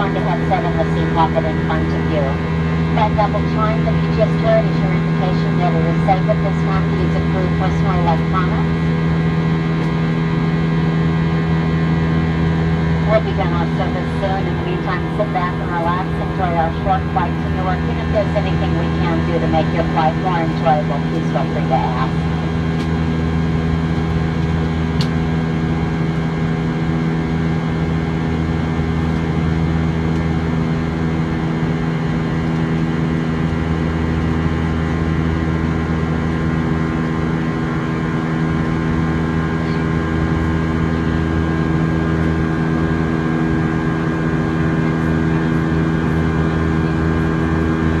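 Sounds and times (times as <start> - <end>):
jet engine cabin drone: 0.0 - 48.0.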